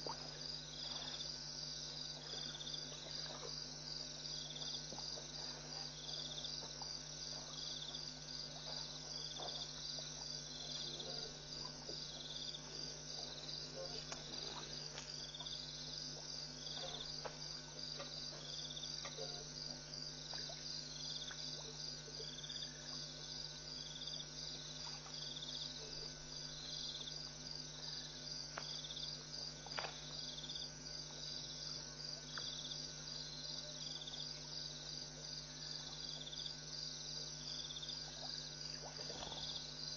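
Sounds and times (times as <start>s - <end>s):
constant low hum: 0.0s - 39.9s
crickets chirping: 0.0s - 39.9s.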